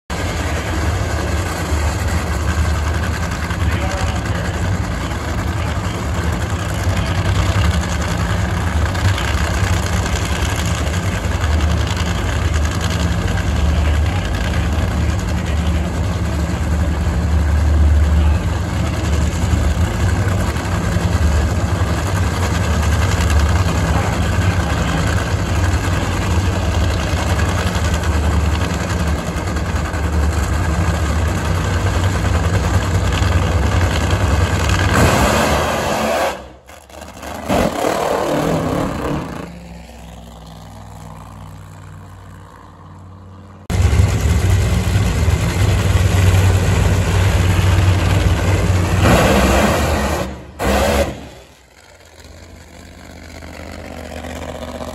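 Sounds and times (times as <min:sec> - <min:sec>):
dragster engines idling: 0:00.1 - 0:54.9.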